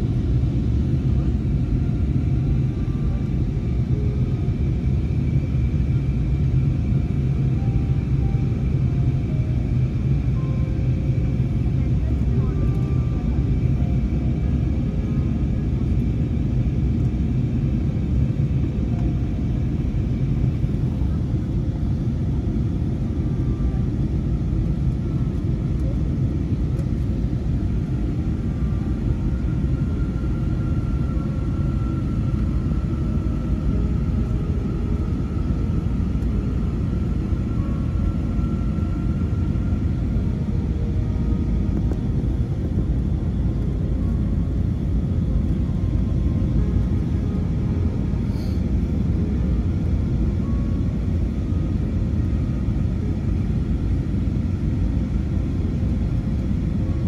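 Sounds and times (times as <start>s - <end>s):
faint whine: 0.0s - 57.0s
jet engine rumble in cabin: 0.0s - 57.0s.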